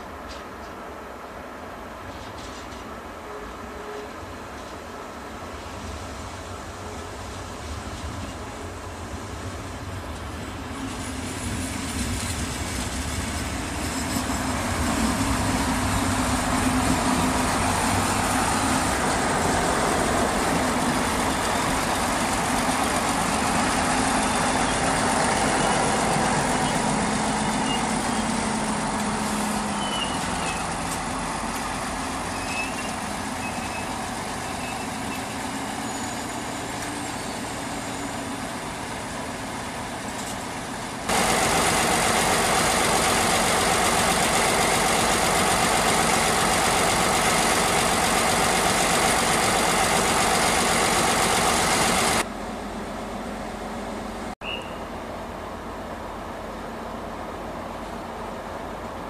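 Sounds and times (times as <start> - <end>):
diesel train engine and running gear: 0.0 - 59.0.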